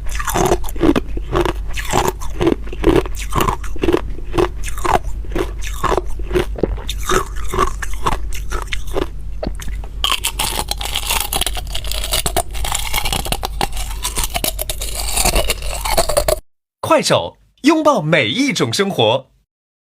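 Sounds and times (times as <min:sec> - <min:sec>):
ice crunching between teeth: 0:00.0 - 0:16.4.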